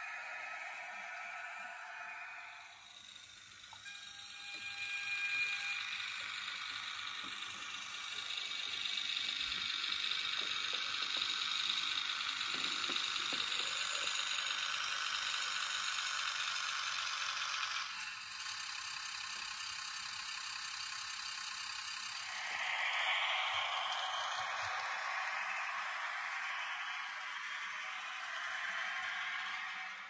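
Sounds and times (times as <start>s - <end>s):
model train rattling on track: 2.8s - 30.0s.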